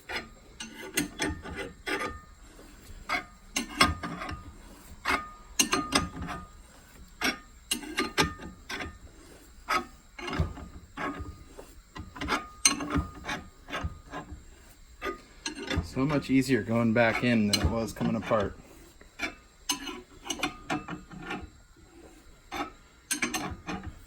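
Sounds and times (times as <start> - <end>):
metal clicks with scraping: 0.0 - 24.0.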